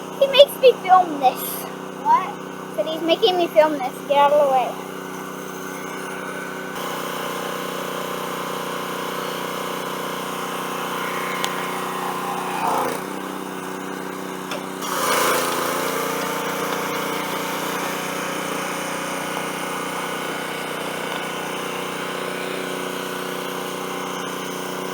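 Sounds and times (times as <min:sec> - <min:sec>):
pressure washer running: 0:00.0 - 0:24.9.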